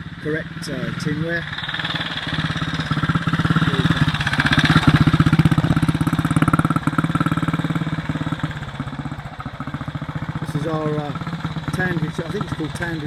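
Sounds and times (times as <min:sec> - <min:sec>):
motorcycle engine passing: 0:00.0 - 0:13.0.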